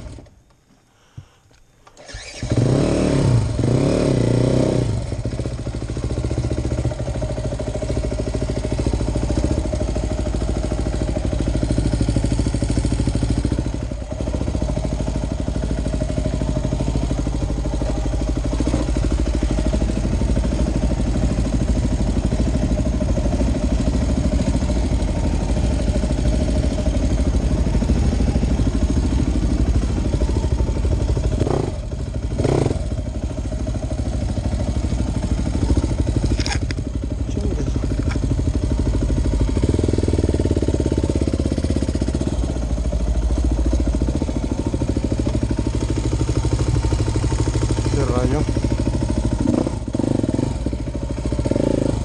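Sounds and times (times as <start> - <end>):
dirt bike engine running: 2.0 - 52.0.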